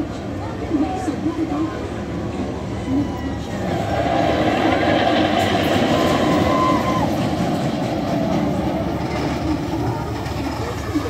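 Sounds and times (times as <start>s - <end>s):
roller coaster on track: 0.0s - 11.0s.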